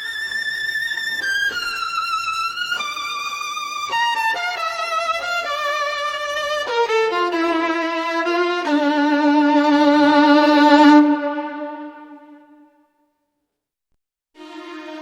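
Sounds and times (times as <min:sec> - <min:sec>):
solo violin melody: 0:00.0 - 0:12.7, 0:14.4 - 0:15.0.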